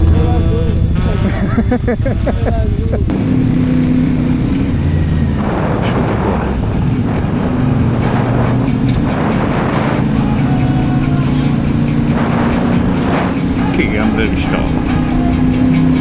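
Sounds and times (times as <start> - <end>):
bursts of rough noise: 0.0 - 16.0
motorcycle engine running: 0.0 - 16.0.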